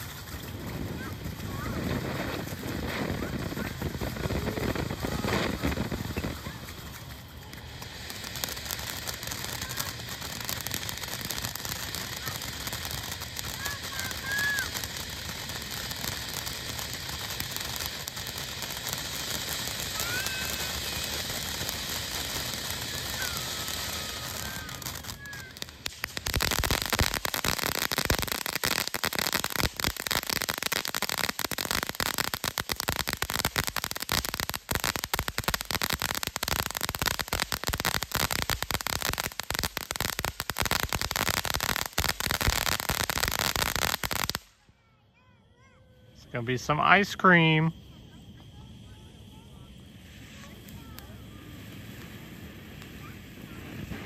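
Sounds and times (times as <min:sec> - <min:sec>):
firecracker pops and crackles: 0:00.0 - 0:44.9, 0:46.5 - 0:54.0
steady hiss: 0:01.1 - 0:44.6, 0:45.8 - 0:54.0.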